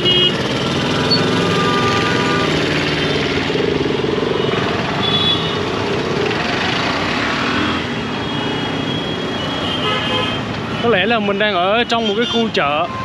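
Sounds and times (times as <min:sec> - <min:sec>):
motorcycle engines passing: 0:00.0 - 0:11.4
cars passing: 0:00.0 - 0:13.0
close engine: 0:00.0 - 0:13.0.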